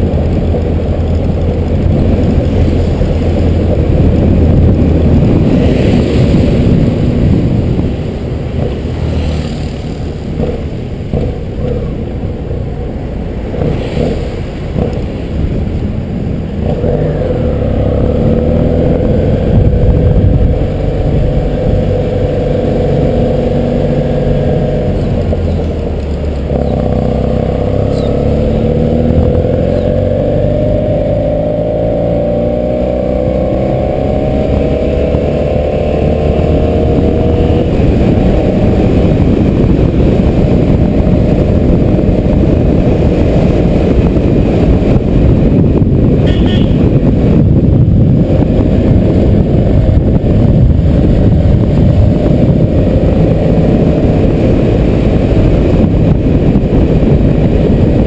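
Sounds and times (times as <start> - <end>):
motorcycle engine running: 0.0 - 58.0
road noise: 0.0 - 58.0
wind noise: 0.0 - 58.0.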